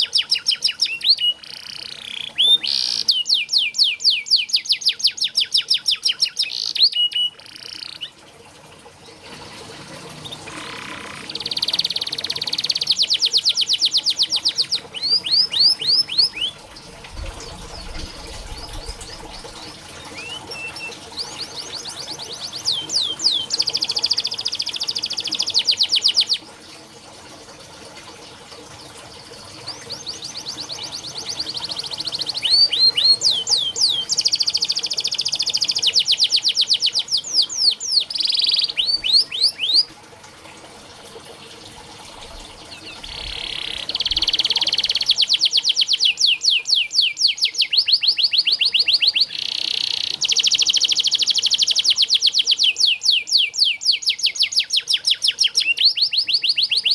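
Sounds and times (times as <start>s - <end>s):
canary singing trills: 0.0s - 8.2s, 10.2s - 16.6s, 17.2s - 26.4s, 29.4s - 39.9s, 42.6s - 56.9s.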